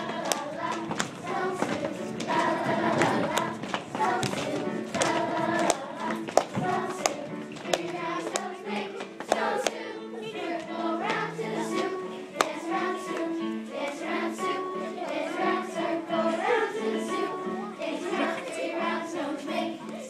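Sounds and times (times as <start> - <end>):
children singing: 0.0 - 20.0
music: 0.0 - 20.0.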